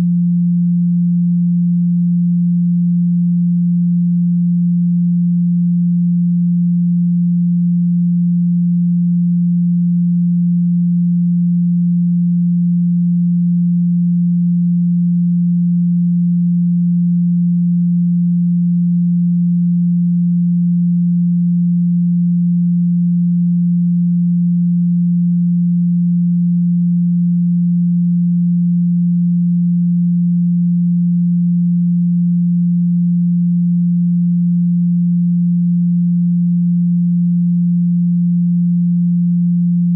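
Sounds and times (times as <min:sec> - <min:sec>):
steady pure sine tone: 0:00.0 - 0:39.9.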